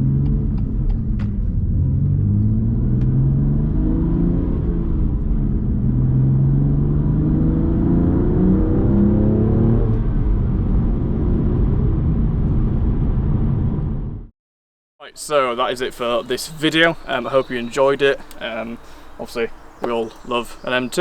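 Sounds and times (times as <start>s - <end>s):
road noise: 0.0s - 14.1s, 15.0s - 21.0s
car engine rumble: 0.0s - 14.3s, 15.2s - 21.0s.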